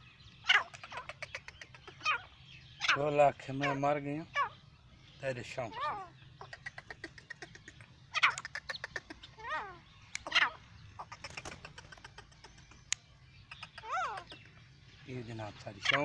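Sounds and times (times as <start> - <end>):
young bird crying: 0.0 - 4.8, 5.4 - 14.6, 15.6 - 16.0.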